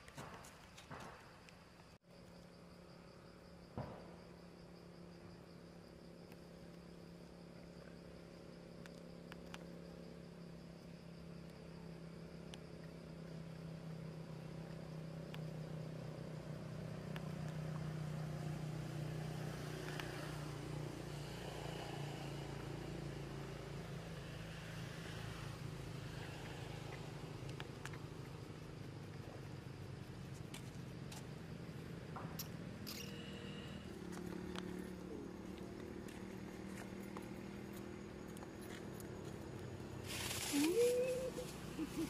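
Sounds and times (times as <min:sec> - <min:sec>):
low engine hum: 0:03.7 - 0:42.0.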